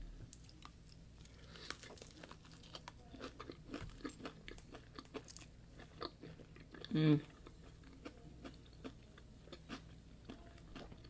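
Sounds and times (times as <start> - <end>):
crunchy chewing and biting: 0.3 - 11.0.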